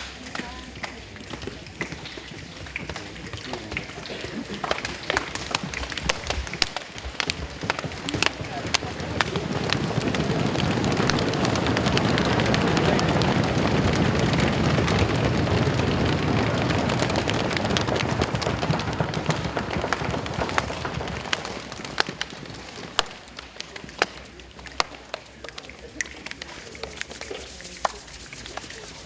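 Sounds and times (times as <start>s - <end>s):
crowd stamping feet and slapping legs: 0.0s - 29.0s.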